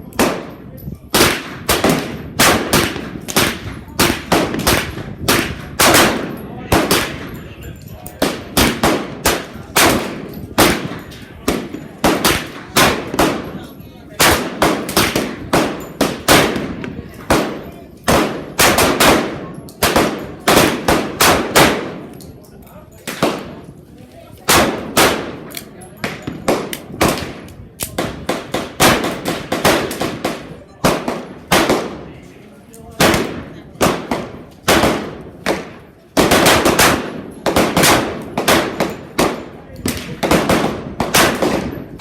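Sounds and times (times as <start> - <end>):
pistol shots: 0.1 - 7.4, 8.2 - 22.2, 23.1 - 23.7, 24.5 - 32.1, 33.0 - 42.0.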